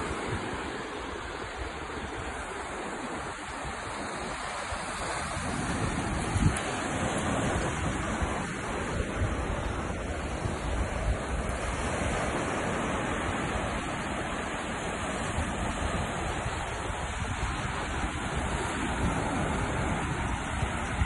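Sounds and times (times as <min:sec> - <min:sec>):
surf breaking on a beach: 0:00.0 - 0:21.0
wind on microphone: 0:00.0 - 0:21.0.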